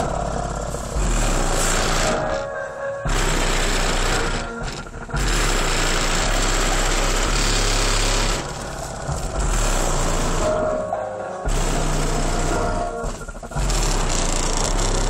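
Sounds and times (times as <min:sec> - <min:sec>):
distorted bass-heavy music: 0:00.0 - 0:15.0.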